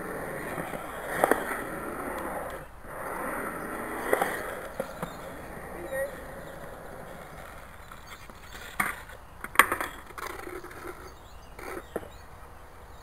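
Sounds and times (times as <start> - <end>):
skateboard knocking on concrete: 0.0 - 12.2.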